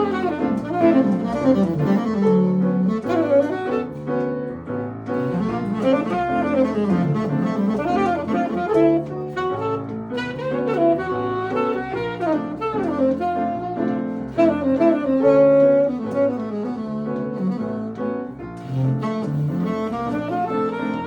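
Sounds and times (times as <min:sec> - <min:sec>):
double bass accompaniment: 0:00.0 - 0:21.0
saxophone melody: 0:00.0 - 0:21.0.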